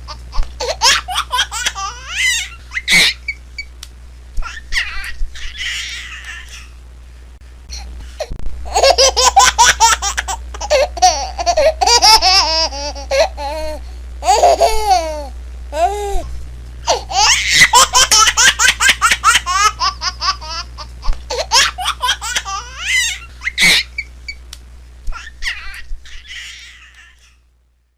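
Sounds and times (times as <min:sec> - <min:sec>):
baby laughing: 0:00.1 - 0:03.4, 0:04.4 - 0:06.8, 0:08.7 - 0:16.3, 0:16.9 - 0:24.1, 0:25.1 - 0:27.4.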